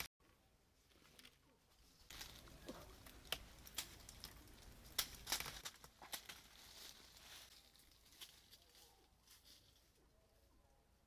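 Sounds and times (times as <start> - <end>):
rustling of fruit stems: 0.7 - 10.5.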